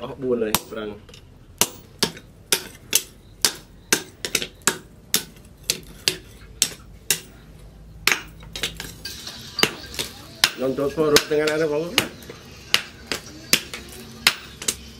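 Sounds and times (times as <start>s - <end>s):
hammer striking metal on anvil: 1.6s - 7.4s, 8.0s - 14.9s.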